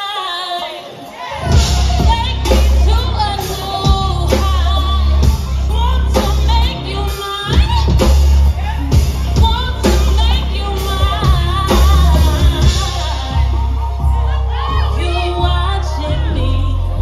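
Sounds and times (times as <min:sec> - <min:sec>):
woman singing: 0:00.0 - 0:17.0
music with heavy bass and drums: 0:01.4 - 0:17.0.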